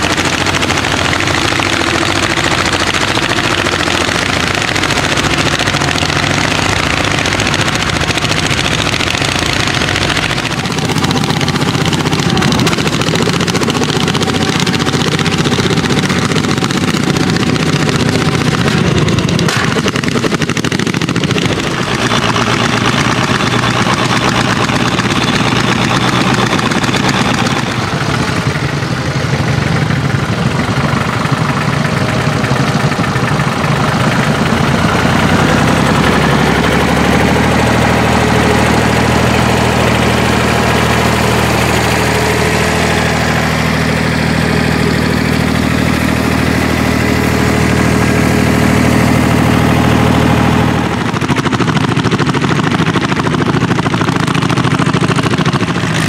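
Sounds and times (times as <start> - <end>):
tractor engines under load: 0.0 - 56.0.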